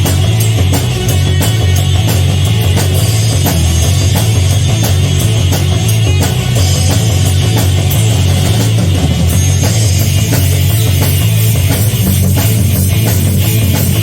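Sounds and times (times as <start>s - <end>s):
bass guitar: 0.0s - 14.0s
distorted electric guitars: 0.0s - 14.0s
drum kit steady beat: 0.0s - 14.0s.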